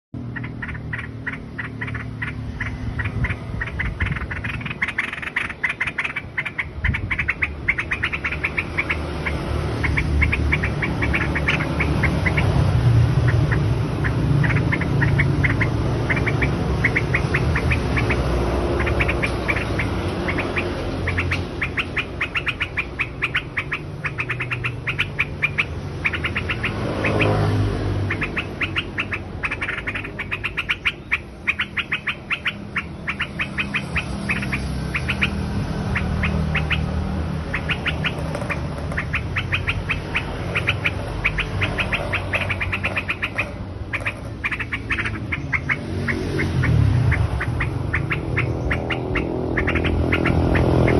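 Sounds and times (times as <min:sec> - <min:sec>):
songbird chirping: 0:00.2 - 0:50.9.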